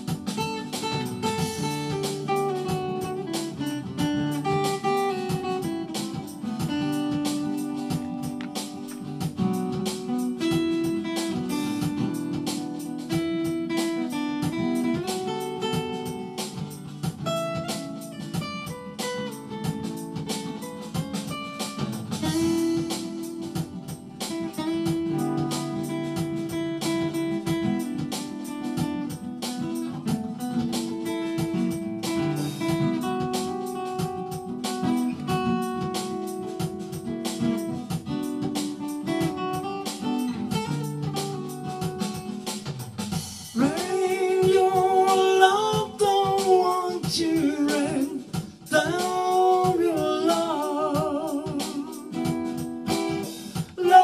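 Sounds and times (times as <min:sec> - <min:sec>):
instrumental accompaniment: 0:00.0 - 0:54.0
plucked and strummed guitar: 0:00.0 - 0:54.0.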